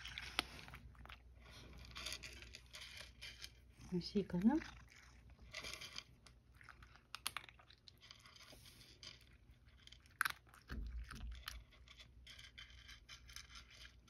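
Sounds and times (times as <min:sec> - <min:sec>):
cat crunching dry kibble: 0:00.0 - 0:14.0.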